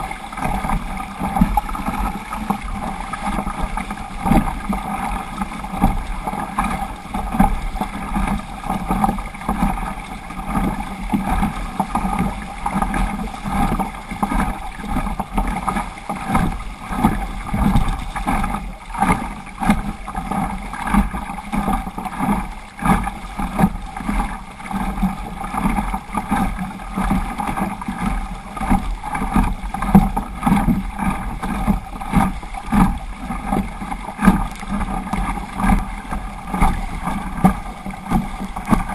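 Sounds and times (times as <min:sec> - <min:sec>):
paddle strokes splashing: 0:00.0 - 0:38.9
water rushing along hull: 0:00.0 - 0:38.9.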